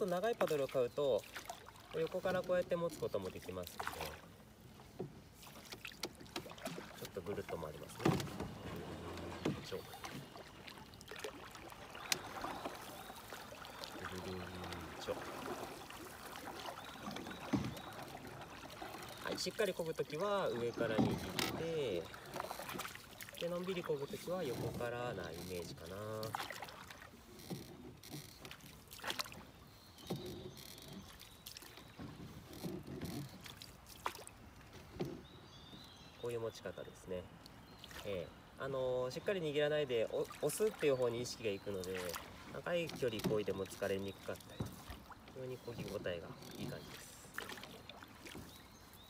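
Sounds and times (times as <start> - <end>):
paddle splashing in water: 0.0 - 49.0.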